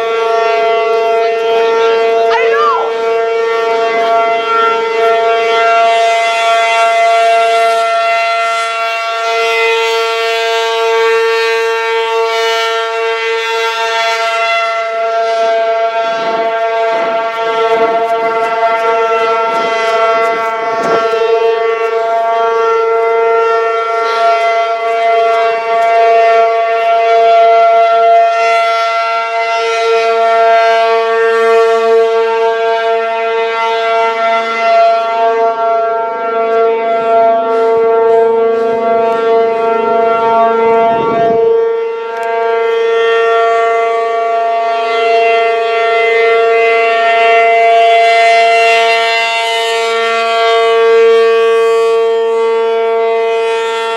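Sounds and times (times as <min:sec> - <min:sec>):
warning siren steady tone: 0:00.0 - 0:53.9.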